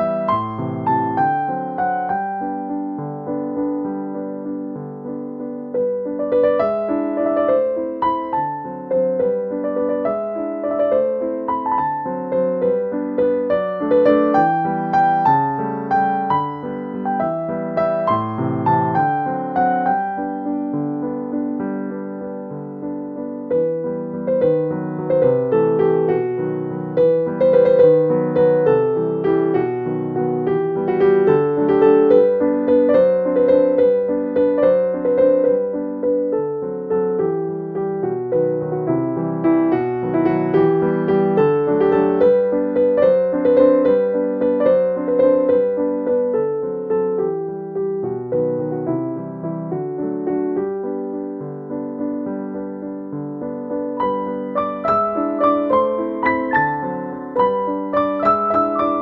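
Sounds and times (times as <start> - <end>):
gentle piano melody: 0.0 - 59.0.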